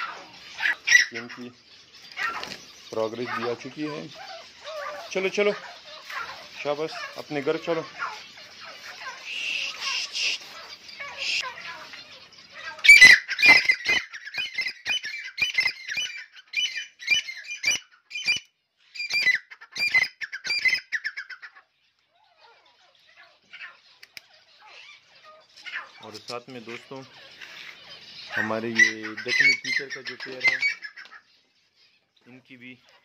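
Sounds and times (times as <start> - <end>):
francolins squawking: 0.0 - 33.0.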